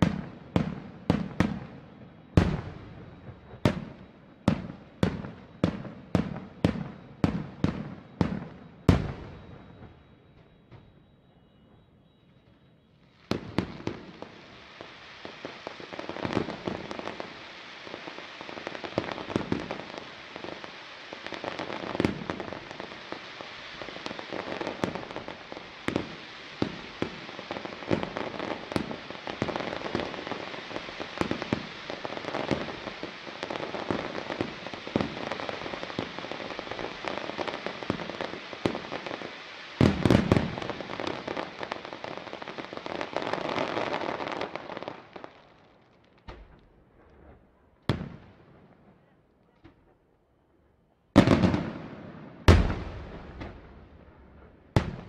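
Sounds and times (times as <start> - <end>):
fireworks crackling: 0.0 - 11.2, 12.4 - 49.1, 51.2 - 55.0
fireworks bangs: 0.0 - 49.9, 51.2 - 55.0.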